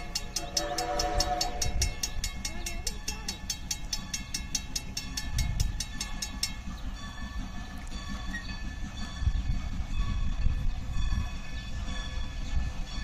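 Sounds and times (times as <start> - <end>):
low rumble of train: 0.0 - 13.0
steam locomotive chime whistle: 0.0 - 13.0
steam locomotive exhaust beats: 0.0 - 13.0.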